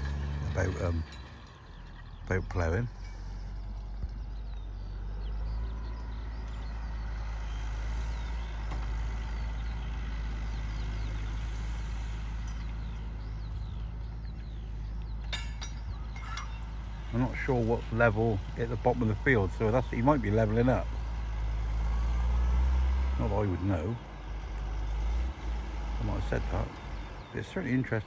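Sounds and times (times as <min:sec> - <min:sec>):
tractor engine rumbling: 0:00.0 - 0:28.0.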